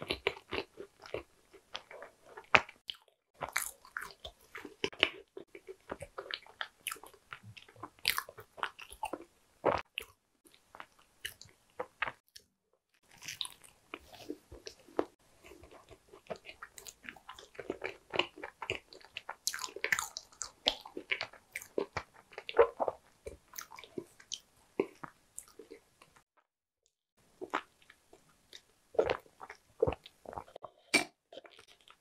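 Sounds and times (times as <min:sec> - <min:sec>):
chewing crunchy pastry: 0:00.0 - 0:26.2, 0:27.3 - 0:32.0.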